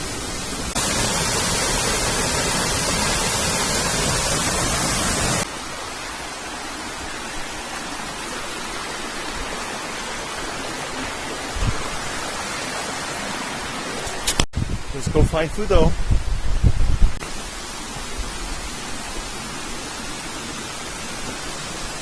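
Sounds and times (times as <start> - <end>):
rush of falling water: 0.0 - 16.2, 17.2 - 22.0.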